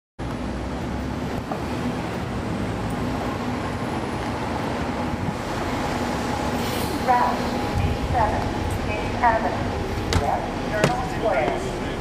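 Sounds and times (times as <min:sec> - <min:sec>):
bus diesel engine running: 0:00.2 - 0:12.0
road noise: 0:00.2 - 0:12.0.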